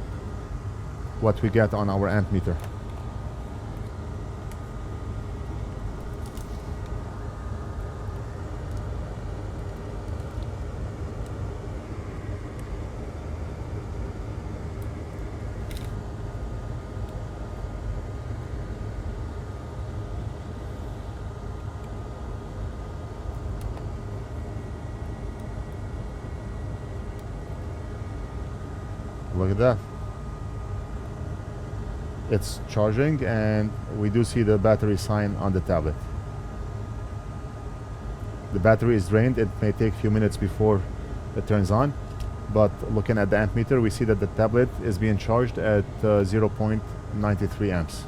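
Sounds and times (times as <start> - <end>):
faint high whine: 0.0 - 48.0
low background hum: 0.0 - 48.0.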